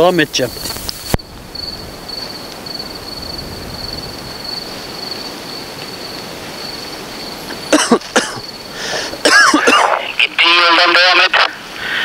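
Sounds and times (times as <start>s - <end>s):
cricket trilling: 0.0s - 11.8s
rain hiss: 0.0s - 12.0s.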